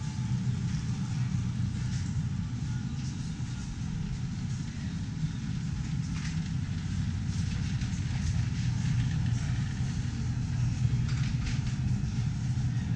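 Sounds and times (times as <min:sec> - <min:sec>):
low rumble of store background: 0:00.0 - 0:12.9.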